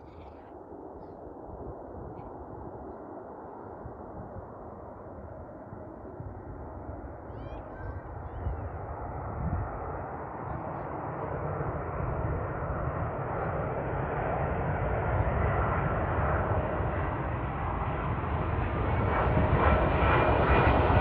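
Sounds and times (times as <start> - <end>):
jet engines of landing airliner: 0.0 - 21.0.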